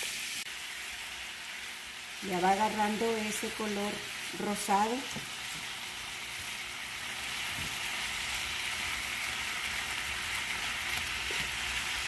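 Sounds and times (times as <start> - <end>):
shrimp sizzling in frying pan: 0.0 - 12.0.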